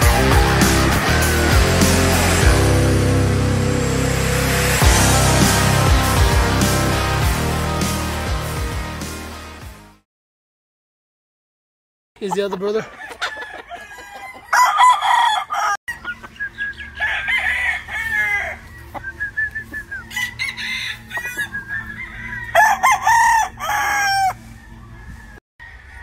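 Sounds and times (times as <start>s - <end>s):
roosters crowing: 0.0s - 8.2s, 12.5s - 26.0s.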